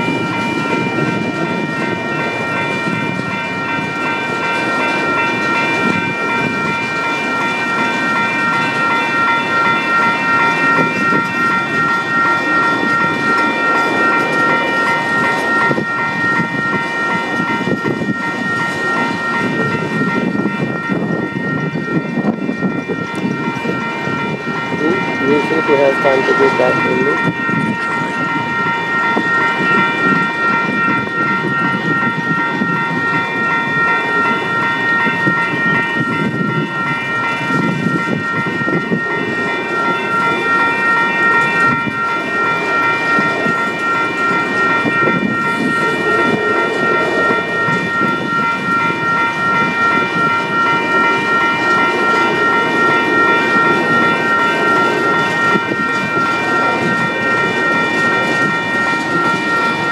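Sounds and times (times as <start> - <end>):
high-pitched ringing tones: 0.0 - 59.9
train wheels rumbling on rail: 0.0 - 59.9.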